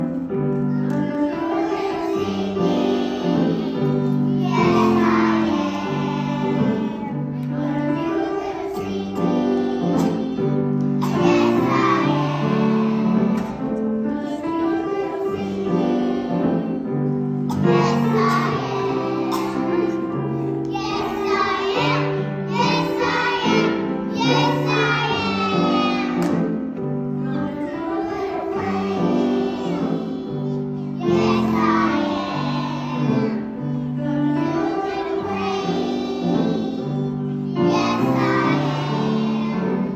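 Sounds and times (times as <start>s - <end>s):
children singing together: 0.0s - 39.9s
musical accompaniment: 0.0s - 39.9s.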